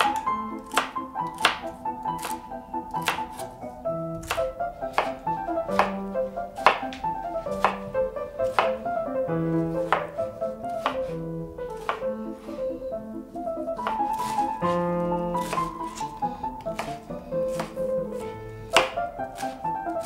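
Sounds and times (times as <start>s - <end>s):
knife chopping on plastic board: 0.0s - 3.5s, 4.1s - 8.9s, 9.6s - 12.2s, 13.8s - 20.0s
piano background music: 0.0s - 20.0s.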